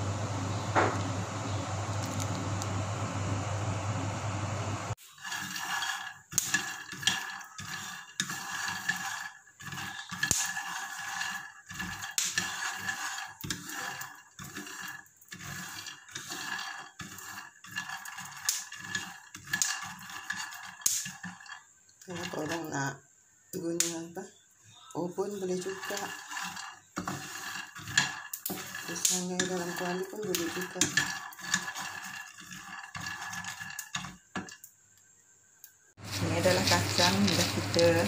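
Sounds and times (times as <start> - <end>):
peanuts rattling in a frying pan: 1.5 - 2.4, 5.0 - 24.4, 25.0 - 35.2, 36.0 - 38.0.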